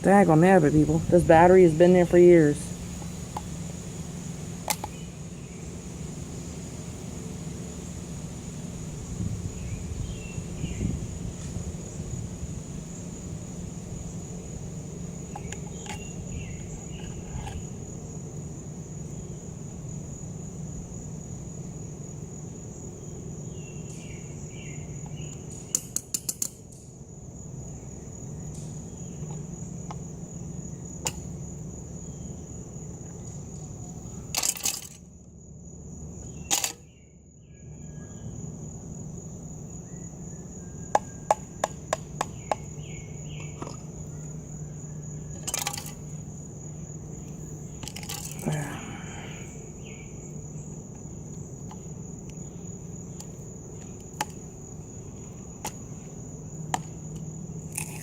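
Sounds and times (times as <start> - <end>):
insect chirring: 0.0 - 58.0.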